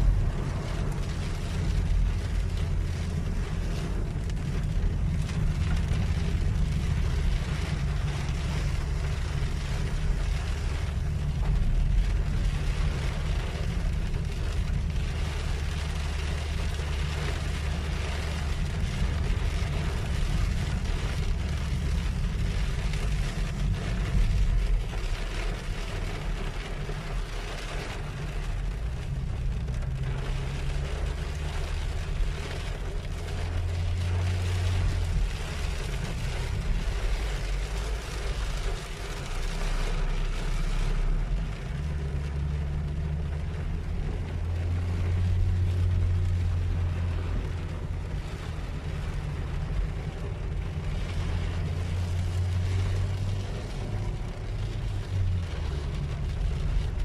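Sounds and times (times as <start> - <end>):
car driving on wet road: 0.0 - 57.0
heavy rain on windshield: 0.0 - 57.0.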